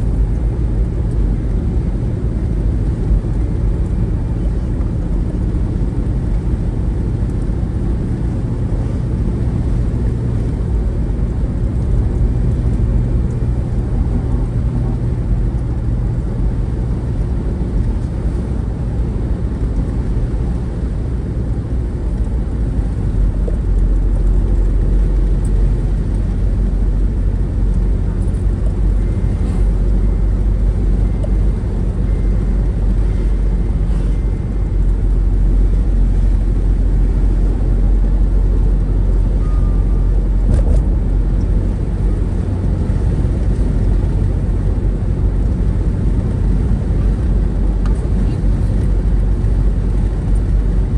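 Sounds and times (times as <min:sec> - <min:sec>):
vehicle engine and road noise: 0:00.0 - 0:50.9.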